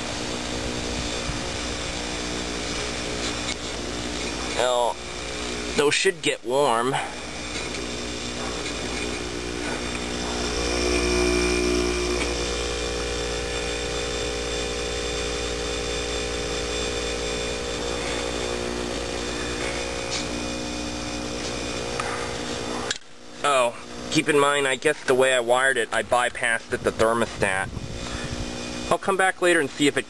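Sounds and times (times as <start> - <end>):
compressor humming steadily: 0.0 - 30.0.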